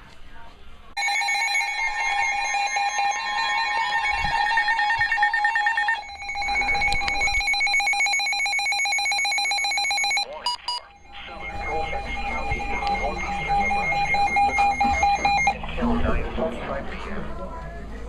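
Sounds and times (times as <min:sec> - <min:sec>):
two-tone alarm with harsh buzzing: 0:01.0 - 0:15.7.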